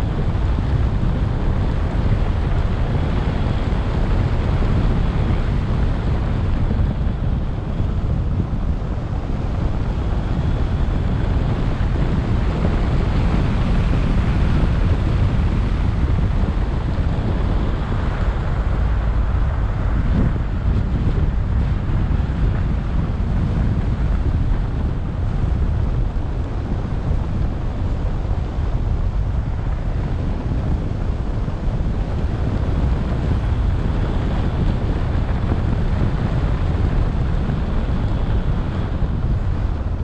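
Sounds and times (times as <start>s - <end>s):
car road and tyre noise: 0.0s - 40.0s
wind rumbling on microphone: 0.0s - 40.0s.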